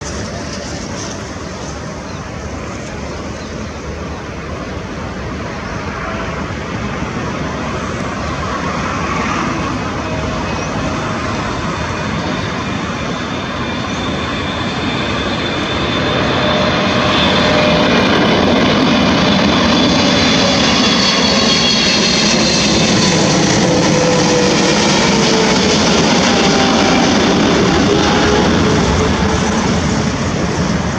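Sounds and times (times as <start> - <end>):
jet engines whining: 0.0 - 30.9.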